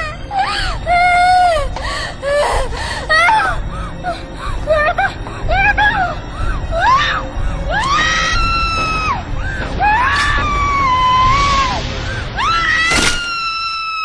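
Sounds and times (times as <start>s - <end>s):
dark background music: 0.0s - 14.0s.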